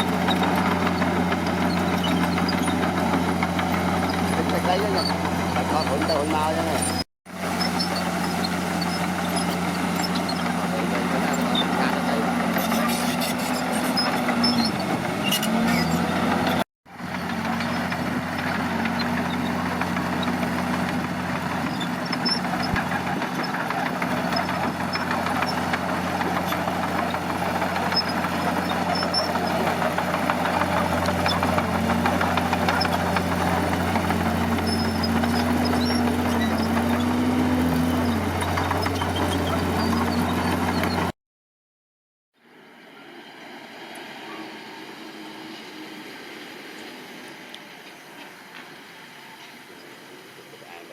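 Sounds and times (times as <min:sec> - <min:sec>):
heavy diesel engine running: 0:00.0 - 0:41.1.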